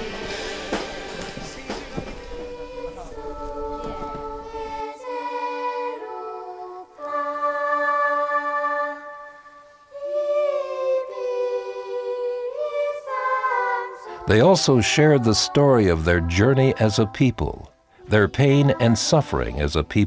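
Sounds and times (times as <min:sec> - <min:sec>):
children singing: 0:00.0 - 0:20.0.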